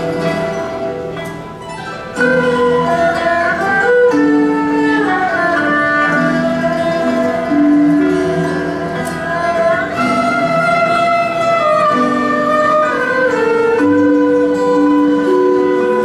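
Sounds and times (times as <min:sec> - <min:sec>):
bowed strings melody: 0:00.0 - 0:16.0
plucked string accompaniment: 0:00.0 - 0:16.0.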